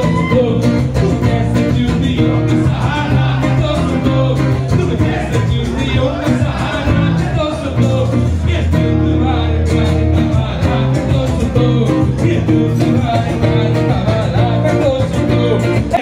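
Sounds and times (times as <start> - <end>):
live band dance music: 0.0 - 16.0
person singing: 0.0 - 16.0.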